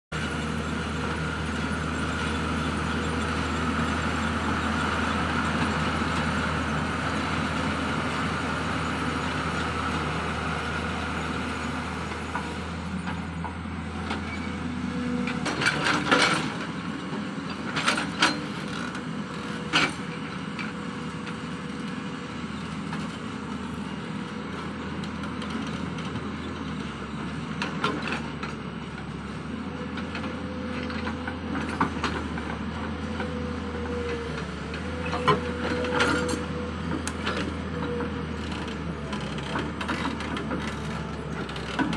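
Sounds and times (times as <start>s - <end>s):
excavator diesel engine running: 0.1s - 41.9s.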